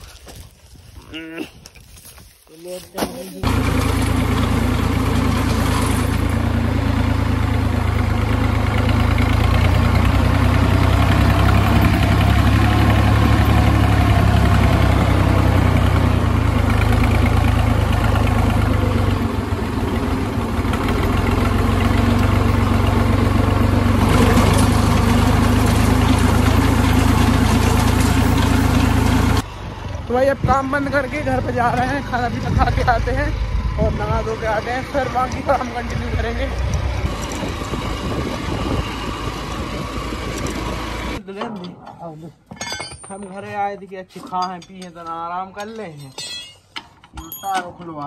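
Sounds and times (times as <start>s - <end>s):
tractor diesel engine running: 1.8s - 41.9s.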